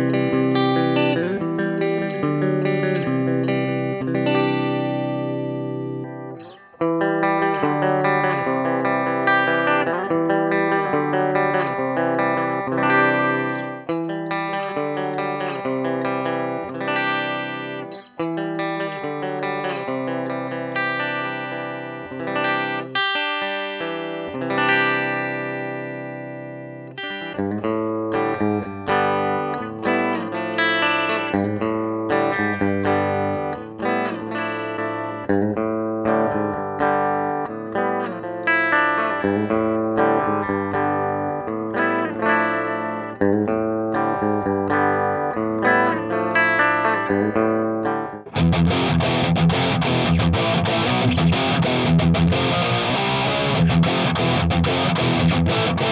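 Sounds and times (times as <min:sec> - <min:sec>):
electric guitar playing: 0:00.0 - 0:55.9.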